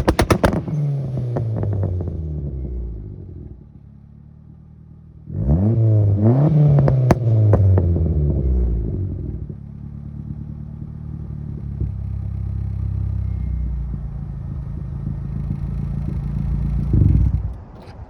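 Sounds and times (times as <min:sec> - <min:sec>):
car exhaust idling: 0:00.0 - 0:05.5, 0:06.1 - 0:18.0.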